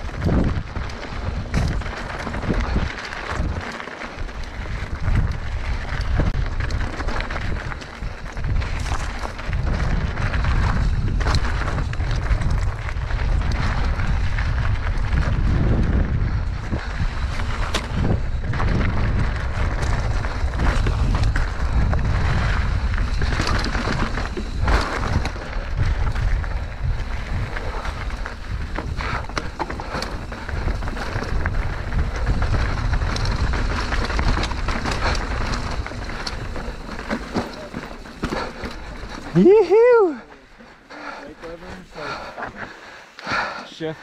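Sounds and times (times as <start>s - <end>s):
bike knocks and rattles: 0.0s - 39.5s
wind buffeting microphone: 0.0s - 43.4s.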